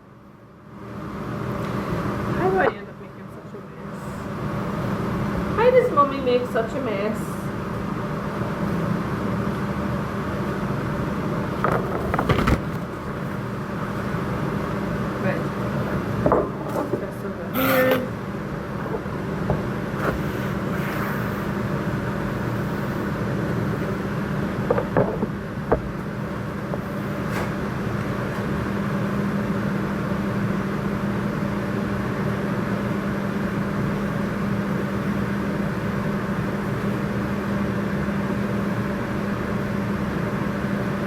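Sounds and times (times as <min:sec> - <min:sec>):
machine hum and hiss: 0:00.0 - 0:41.0.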